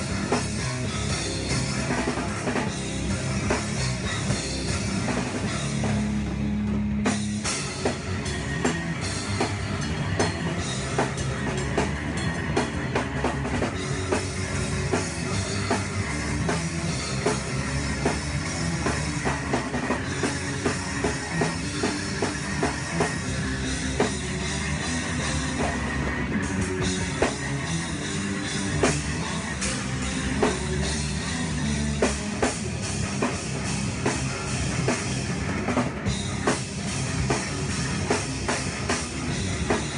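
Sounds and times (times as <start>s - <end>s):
drum kit with heavy cymbals: 0.0s - 39.9s
rock band playing live: 0.0s - 39.9s.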